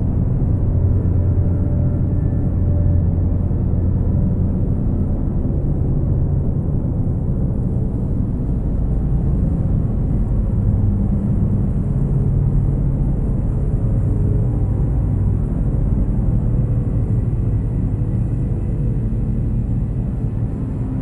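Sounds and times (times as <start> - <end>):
dark ambient drone music: 0.0 - 21.0.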